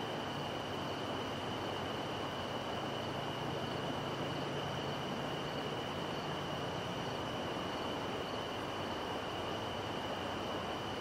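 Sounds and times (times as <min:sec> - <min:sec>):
distant river rushing: 0:00.0 - 0:11.0.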